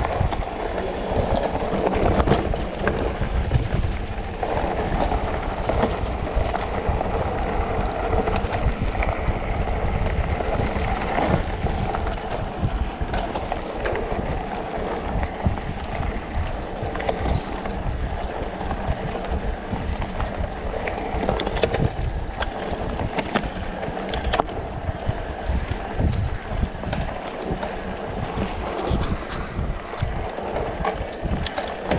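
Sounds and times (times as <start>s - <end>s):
bike knocking and rattling: 0.0s - 31.9s
tyres rolling on packed dirt: 0.0s - 31.9s
wind buffeting microphone: 0.0s - 31.9s.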